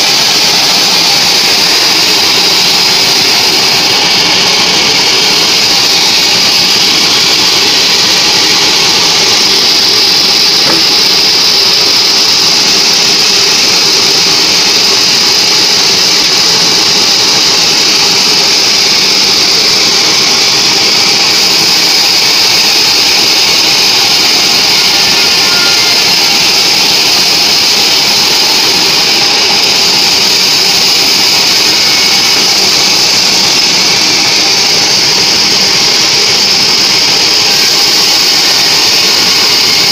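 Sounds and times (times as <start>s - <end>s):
band saw cutting through log: 0.0s - 39.9s.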